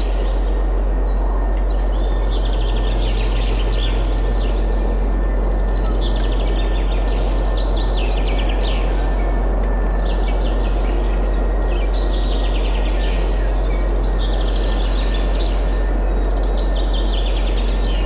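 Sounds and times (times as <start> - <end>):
deep constant rumble: 0.0 - 18.0
songbirds chirping and trilling: 0.0 - 18.0.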